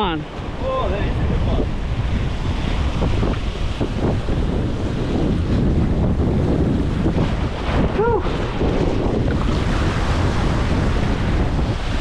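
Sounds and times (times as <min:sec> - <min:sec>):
surf breaking over rocks: 0:00.0 - 0:12.0
wind buffeting microphone: 0:00.0 - 0:12.0.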